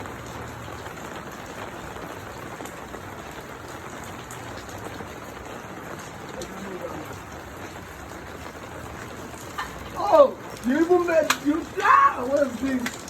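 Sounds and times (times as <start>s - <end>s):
sharp raindrop ticks: 0.0s - 13.0s
steady rain hiss: 0.0s - 13.0s.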